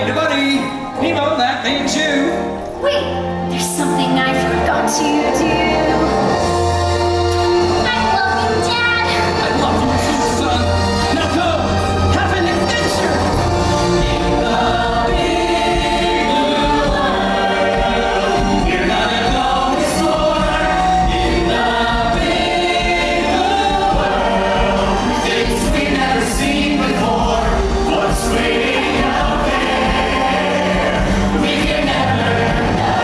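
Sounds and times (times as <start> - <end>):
choir singing with accompaniment: 2.0 - 33.0.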